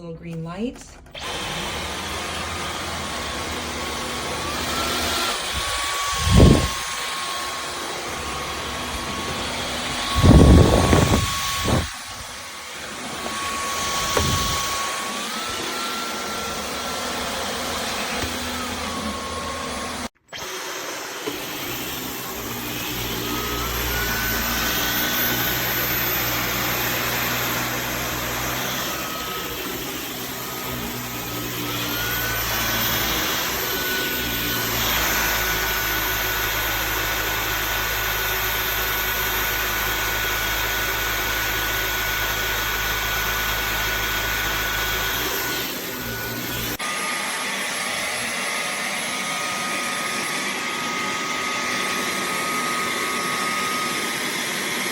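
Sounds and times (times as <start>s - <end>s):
stick vacuum motor whine: 0.3s - 54.9s.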